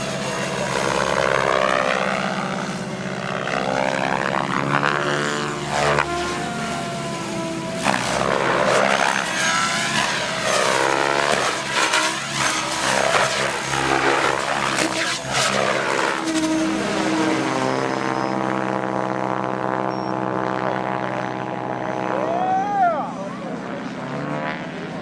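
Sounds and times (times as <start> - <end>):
rotor blades swishing: 0.0 - 22.4
motor and gear whine: 0.0 - 25.0.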